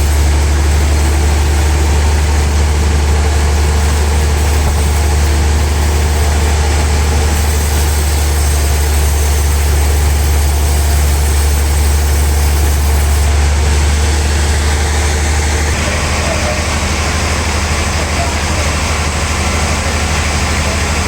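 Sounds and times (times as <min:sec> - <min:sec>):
sawmill machinery running: 0:00.0 - 0:21.0
strong low hum: 0:00.0 - 0:21.0.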